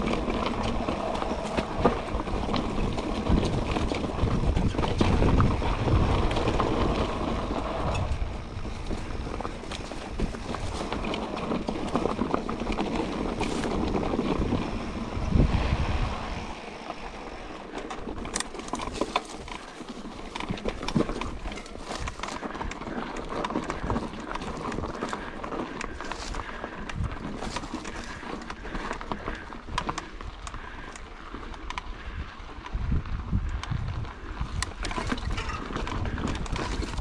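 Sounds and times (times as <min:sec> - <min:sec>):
bike clicks and rattles: 0:00.0 - 0:15.9, 0:16.6 - 0:37.0
bike tyres crunching on dirt: 0:00.0 - 0:37.0
wind rumbling on microphone: 0:00.0 - 0:37.0.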